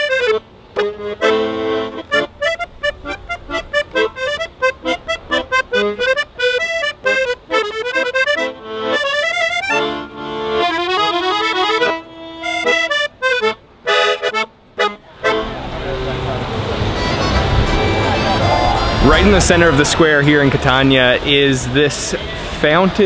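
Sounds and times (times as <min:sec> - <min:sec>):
accordion playing lively tune: 0:00.0 - 0:22.9.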